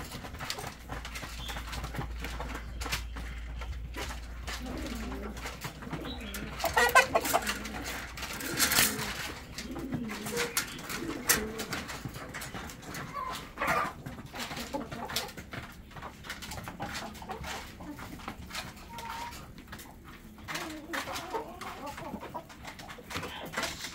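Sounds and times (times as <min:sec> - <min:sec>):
doves cooing: 0:00.0 - 0:23.9.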